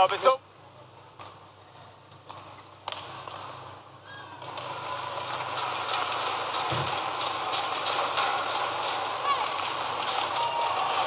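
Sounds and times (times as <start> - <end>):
arena crowd noise: 0.0 - 11.0.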